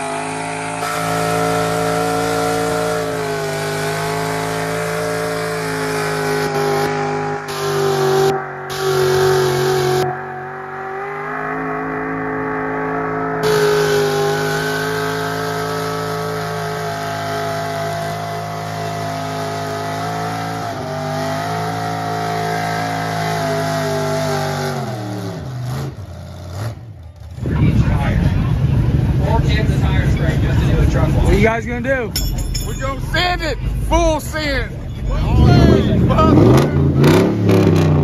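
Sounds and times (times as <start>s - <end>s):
truck engine revving high: 0.0s - 31.9s, 33.0s - 38.0s.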